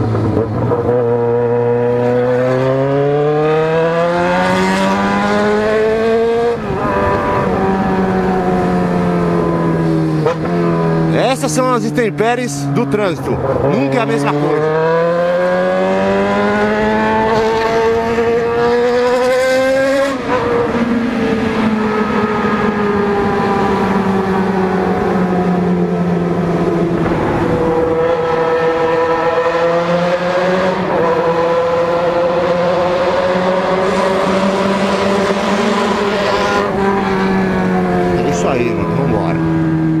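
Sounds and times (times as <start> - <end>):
motorcycle engine revving and shifting: 0.0 - 40.0.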